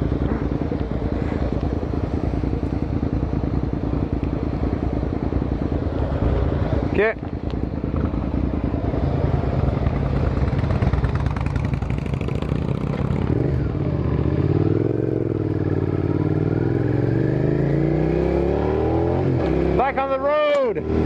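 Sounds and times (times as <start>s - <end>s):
motorcycle engine chugging: 0.0s - 17.0s.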